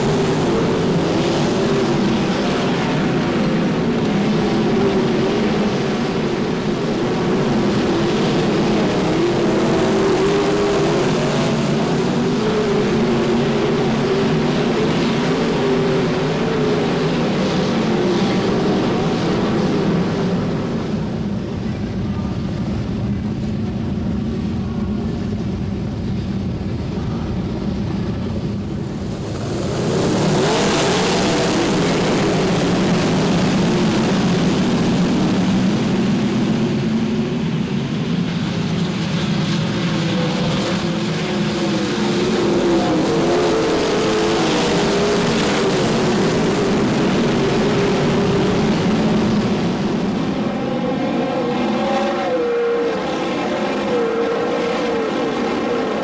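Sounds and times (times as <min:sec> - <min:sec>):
race car engines rumbling: 0:00.0 - 0:56.0.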